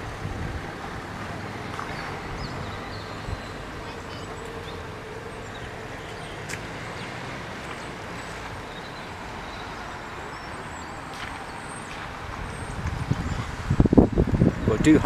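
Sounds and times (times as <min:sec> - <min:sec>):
distant traffic: 0:00.0 - 0:15.0
wind rumble: 0:00.0 - 0:15.0.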